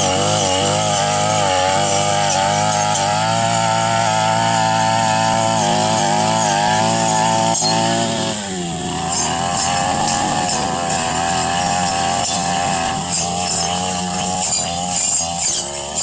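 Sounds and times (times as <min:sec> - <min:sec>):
brush cutter engine running: 0:00.0 - 0:16.0.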